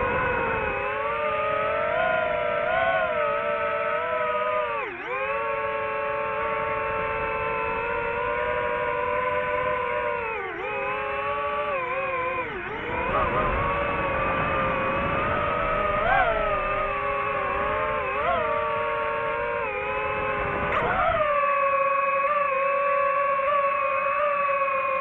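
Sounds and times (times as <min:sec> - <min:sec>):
drone propellers whining: 0:00.0 - 0:25.0.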